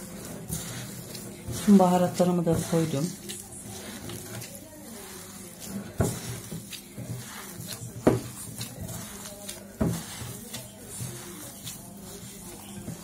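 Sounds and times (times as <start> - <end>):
meat being kneaded squishing: 0.0 - 13.0.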